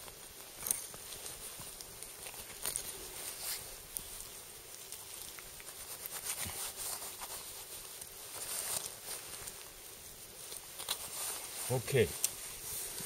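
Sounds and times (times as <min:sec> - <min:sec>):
nylon jacket crackle: 0:00.0 - 0:13.0.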